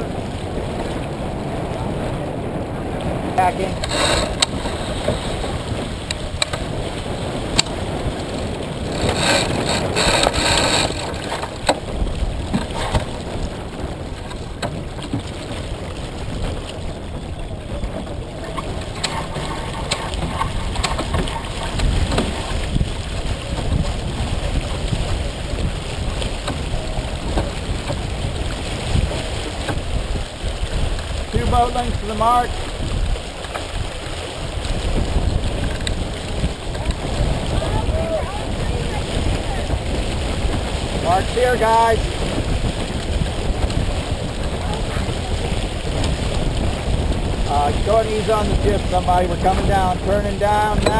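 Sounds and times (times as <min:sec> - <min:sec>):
water rushing along boat hull: 0:00.0 - 0:50.9
wind buffeting microphone: 0:00.0 - 0:50.9.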